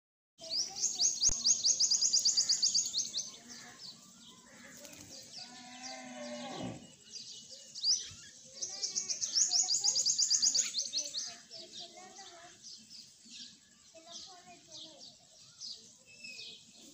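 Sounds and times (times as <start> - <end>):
small birds chirping: 0.4 - 16.9.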